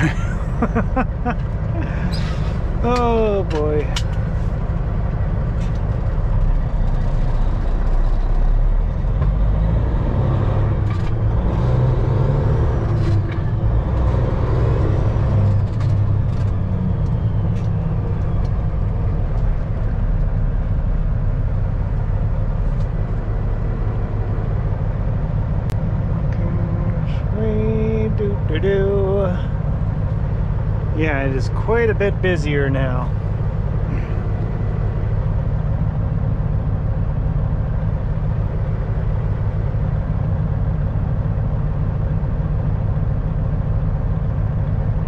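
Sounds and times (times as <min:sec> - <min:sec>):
diesel engine drone in truck cab: 0:00.0 - 0:45.0.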